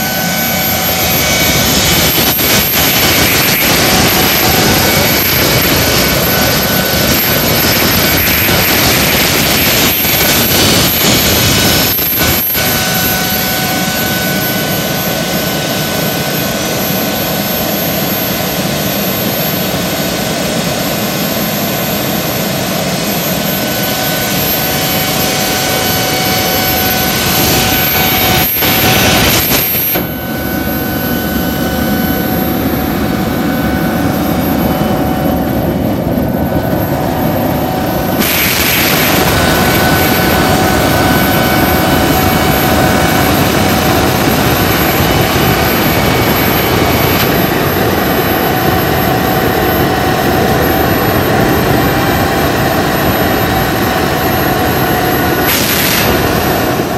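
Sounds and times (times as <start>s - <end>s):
jet turbine roaring with whine: 0.0s - 56.9s.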